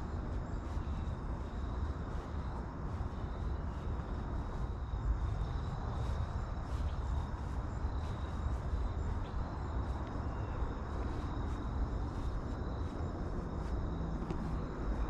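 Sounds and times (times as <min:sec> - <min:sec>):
steady low rumble: 0:00.0 - 0:15.0
thin steady high whine: 0:00.0 - 0:15.0.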